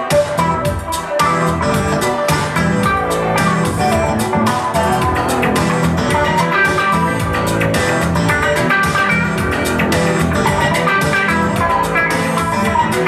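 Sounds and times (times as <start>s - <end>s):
bass: 0.0s - 13.0s
guitar: 0.0s - 13.0s
steady drum beat: 0.0s - 13.0s.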